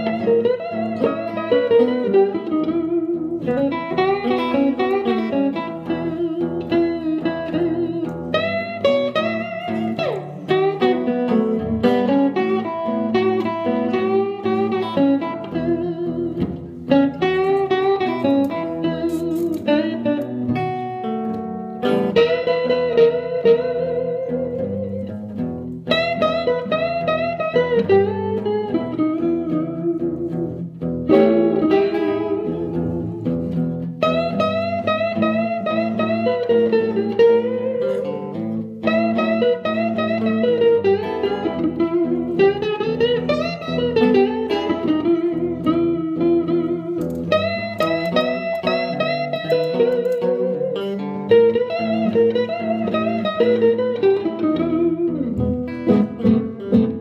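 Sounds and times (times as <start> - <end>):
electric guitar accompaniment: 0.0 - 57.0
lead electric guitar bending notes: 0.0 - 57.0.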